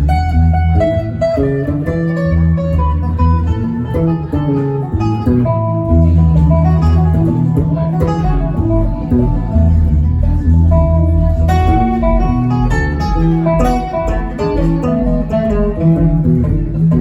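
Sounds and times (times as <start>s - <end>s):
guitar band music: 0.0s - 17.0s.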